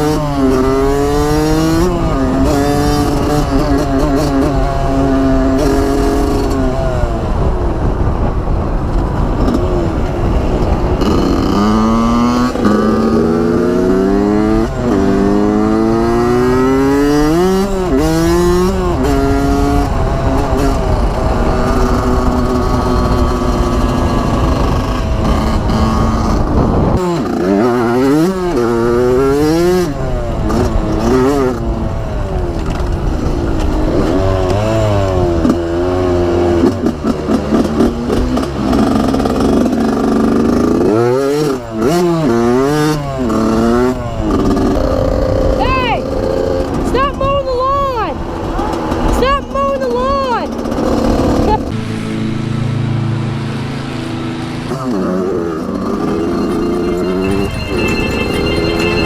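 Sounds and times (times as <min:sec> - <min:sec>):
dirt bike engine revving: 0:00.0 - 0:08.0, 0:09.4 - 0:59.0.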